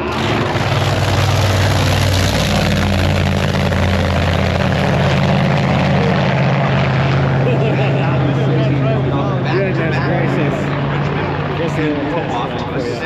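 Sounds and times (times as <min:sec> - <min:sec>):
large engines droning: 0:00.0 - 0:13.0.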